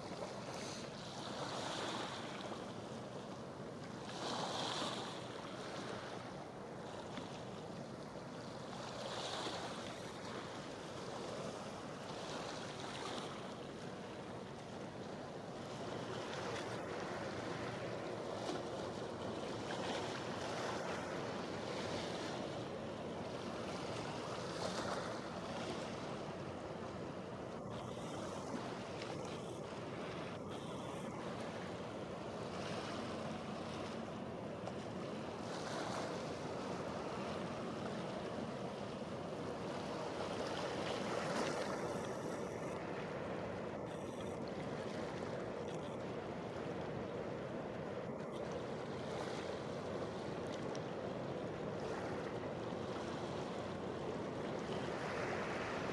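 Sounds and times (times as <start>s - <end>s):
sea waves: 0.0s - 55.9s.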